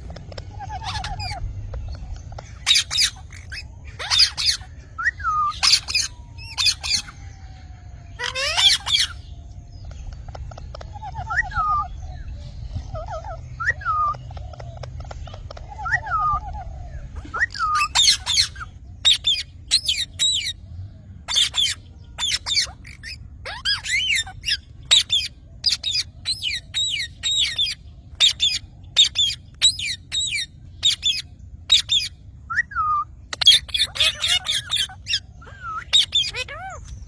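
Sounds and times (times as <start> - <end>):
parrot squawking: 0.0 - 20.6, 21.3 - 37.0.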